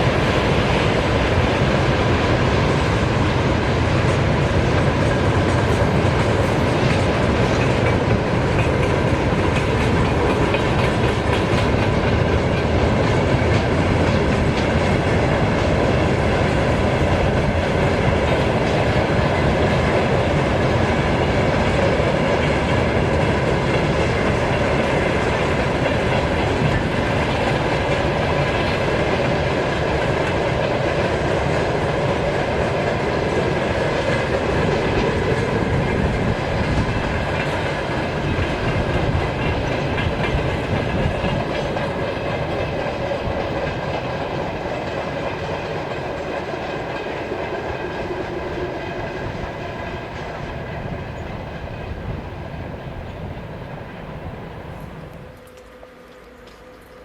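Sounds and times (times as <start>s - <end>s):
train wagons clickety-clack: 0.0s - 57.0s.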